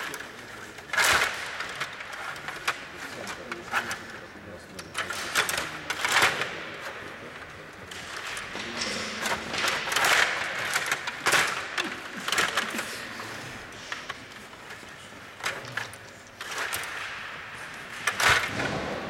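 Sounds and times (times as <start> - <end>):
plastic pieces clicking and knocking: 0.0 - 4.1, 4.8 - 12.9, 13.9 - 18.8.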